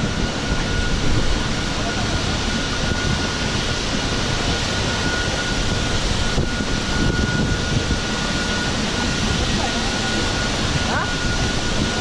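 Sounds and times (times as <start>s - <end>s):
boat engine running: 0.0s - 12.0s
thin high whine: 0.0s - 12.0s.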